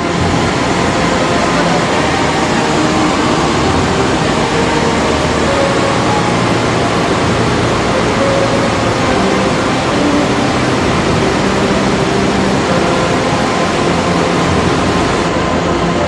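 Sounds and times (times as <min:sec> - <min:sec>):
torrent of water roaring: 0:00.0 - 0:16.0.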